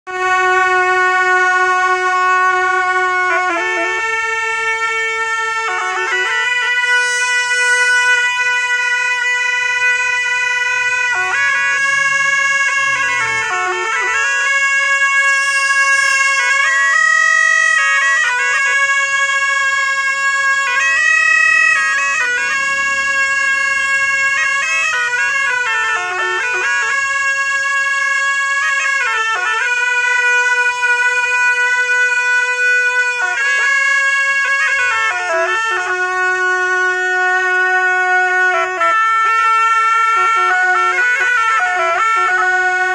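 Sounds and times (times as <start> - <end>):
double-reed shawms playing melody: 0.2 - 42.9.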